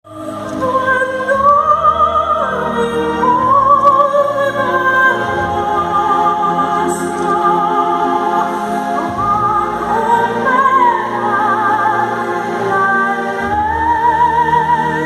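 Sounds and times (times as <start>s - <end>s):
operatic singing with vibrato: 0.0s - 15.0s
orchestral music: 0.0s - 15.0s.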